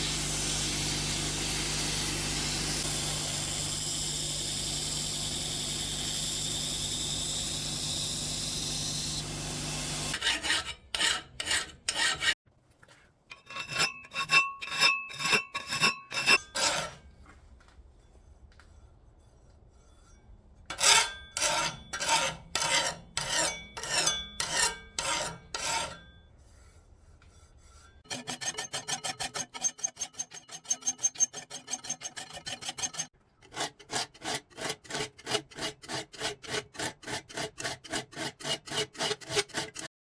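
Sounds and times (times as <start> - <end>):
hand file rasping on steel blade: 0.0 - 12.4, 13.3 - 17.1, 18.1 - 39.9.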